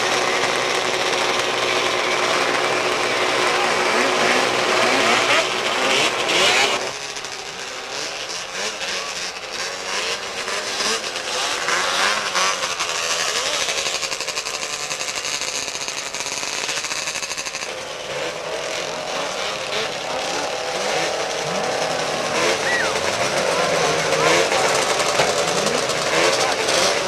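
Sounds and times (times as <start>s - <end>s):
snowmobile engines revving: 0.0s - 27.0s.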